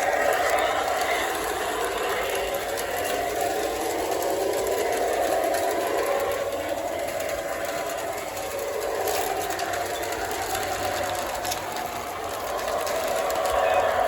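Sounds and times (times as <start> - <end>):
faint clicks: 0.0 - 14.0
model train motor hum: 0.0 - 14.0
model train wheels on rail: 0.0 - 14.0.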